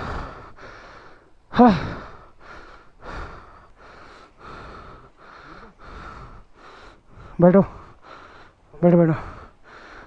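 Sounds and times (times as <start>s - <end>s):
person panting heavily: 0.0s - 10.0s.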